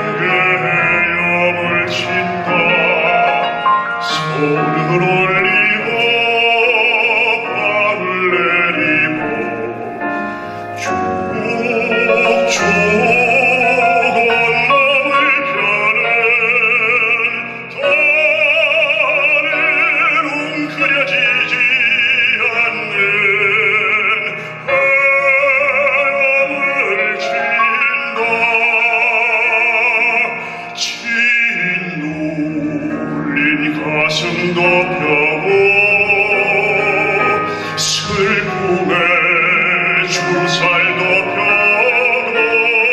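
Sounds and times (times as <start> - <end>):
man singing operatically: 0.0 - 42.9
piano accompaniment: 0.0 - 42.9.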